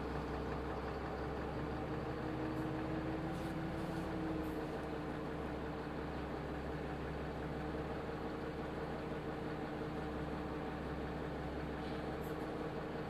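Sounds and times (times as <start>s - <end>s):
bus diesel engine hum: 0.0s - 13.0s
road and cabin noise: 0.0s - 13.0s.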